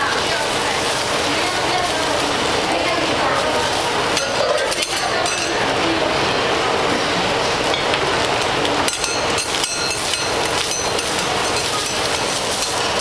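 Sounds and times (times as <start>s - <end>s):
egg sizzling on griddle: 0.0s - 5.8s, 7.4s - 13.0s.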